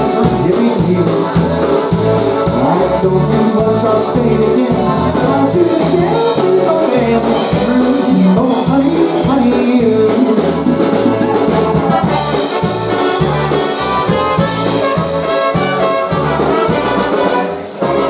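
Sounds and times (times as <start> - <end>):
polka band playing: 0.0 - 18.0.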